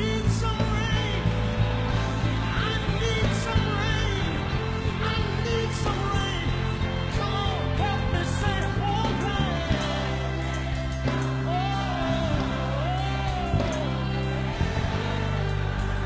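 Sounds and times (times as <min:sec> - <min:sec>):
backing band: 0:00.0 - 0:16.0
man singing gospel: 0:00.0 - 0:16.0.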